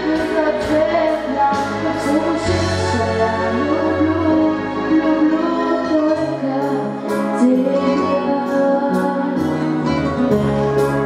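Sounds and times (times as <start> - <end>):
girl singing into microphone: 0.0 - 9.8
instrumental accompaniment: 0.0 - 11.0.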